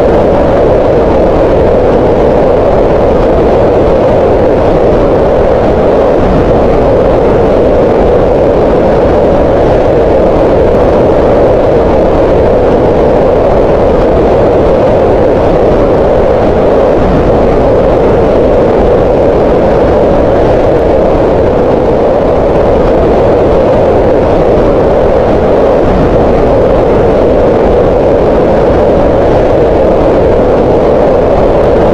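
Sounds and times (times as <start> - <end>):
loud steady green noise hiss: 0.0 - 31.9.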